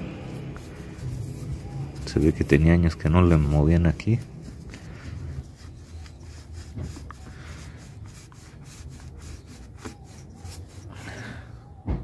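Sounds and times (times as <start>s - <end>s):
cloth rubbing inside valve bore: 0.2s - 11.0s.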